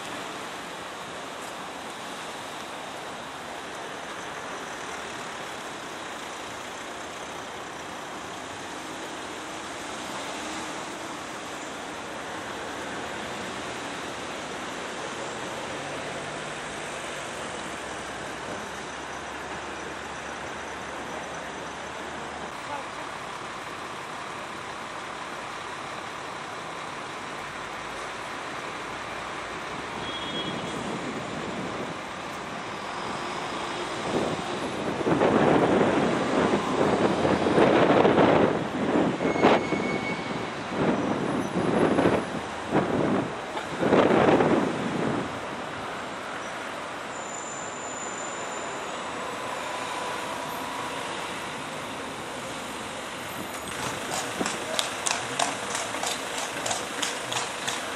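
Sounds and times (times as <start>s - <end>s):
passing road traffic: 0.0s - 57.9s.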